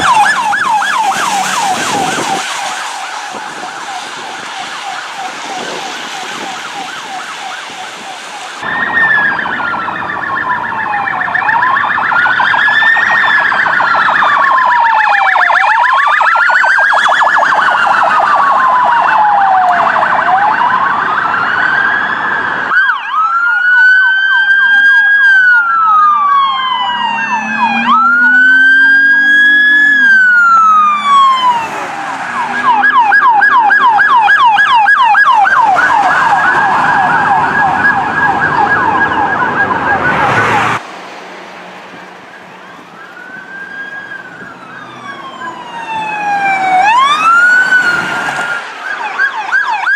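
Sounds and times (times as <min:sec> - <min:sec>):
emergency vehicle sirens wailing: 0:00.0 - 0:49.9.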